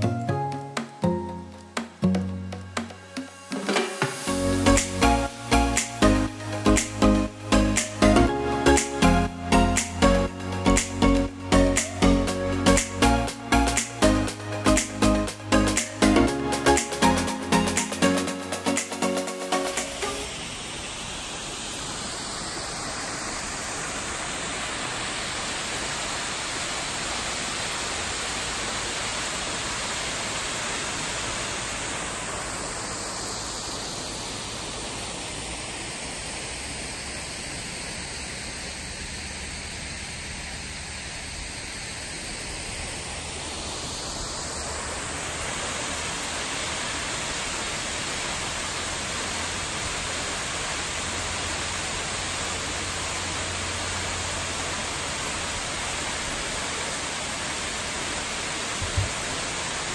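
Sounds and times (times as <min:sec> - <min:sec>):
falling water rushing: 0:00.0 - 0:59.9.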